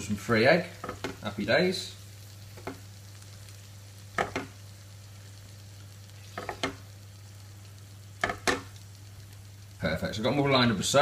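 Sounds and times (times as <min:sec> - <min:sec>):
faint pan sizzle: 0:00.0 - 0:11.0
steady low hum: 0:00.0 - 0:11.0.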